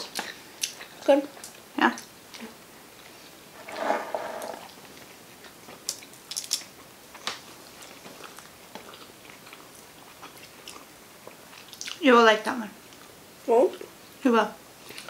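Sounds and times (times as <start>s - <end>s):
people chewing food: 0.0s - 12.1s, 12.8s - 14.0s, 14.8s - 15.0s.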